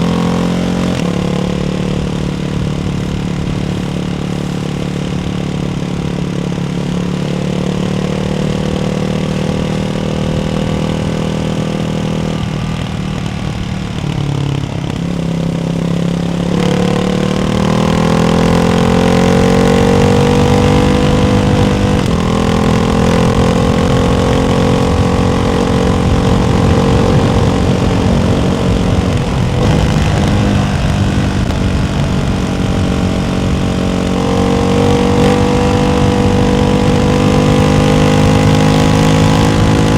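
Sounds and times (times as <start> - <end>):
motorcycle engine at changing revs: 0.0 - 39.9.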